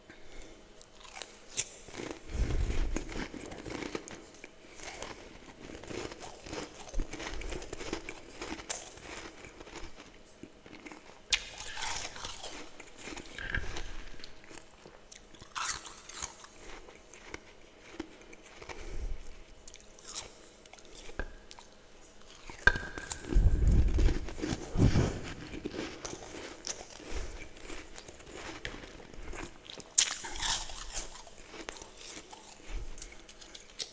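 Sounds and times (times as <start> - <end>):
person chewing crunchy frost: 0.1 - 33.9.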